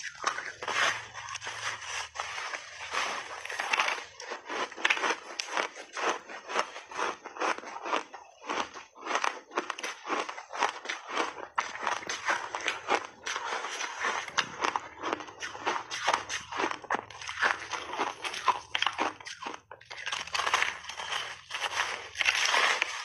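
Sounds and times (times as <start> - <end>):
mouth crunching ice: 0.0 - 23.0.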